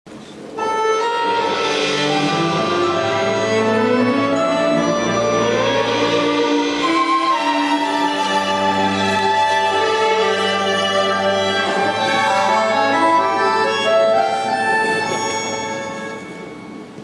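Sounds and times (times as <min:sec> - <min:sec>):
held bass notes: 0:00.6 - 0:16.4
bowed strings slow melody: 0:00.6 - 0:17.0.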